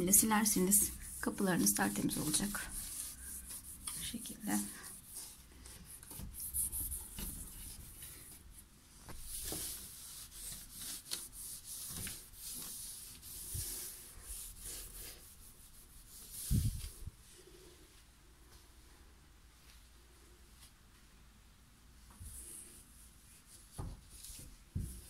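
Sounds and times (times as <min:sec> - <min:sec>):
damp cloth wiping a wooden door: 0:00.0 - 0:18.9, 0:22.0 - 0:25.0.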